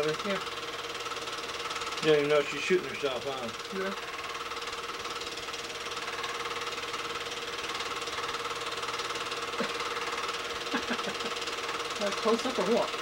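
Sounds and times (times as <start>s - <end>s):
film projector clatter: 0.0s - 13.0s
projector hum: 0.0s - 13.0s.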